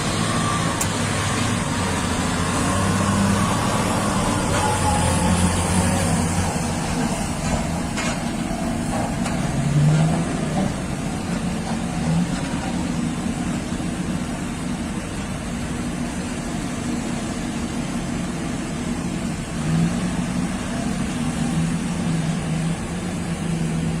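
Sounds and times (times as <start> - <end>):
heavy machinery diesel engine: 0.0 - 24.0.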